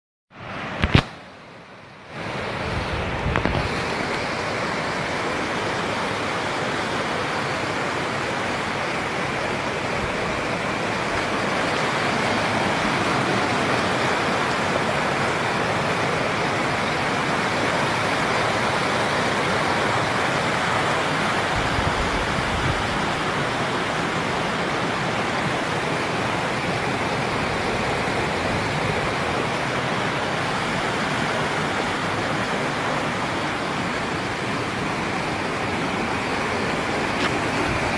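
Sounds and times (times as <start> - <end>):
rush of fast-flowing water: 0.4 - 37.9.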